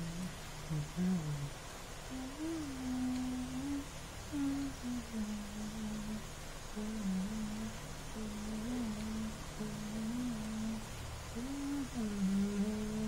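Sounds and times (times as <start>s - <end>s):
faint low drone: 0.0s - 13.0s
person humming a slow tune: 0.0s - 13.0s.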